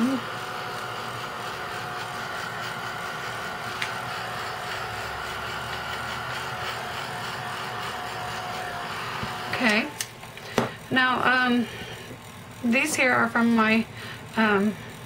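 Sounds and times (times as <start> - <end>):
heat gun fan whining: 0.0 - 15.0.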